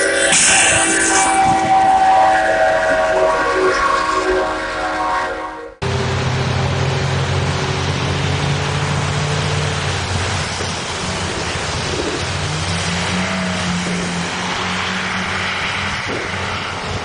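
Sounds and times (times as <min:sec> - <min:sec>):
wind noise: 0:00.0 - 0:05.0, 0:07.3 - 0:17.0
road noise: 0:00.0 - 0:17.0
vehicle engine hum: 0:00.0 - 0:17.0.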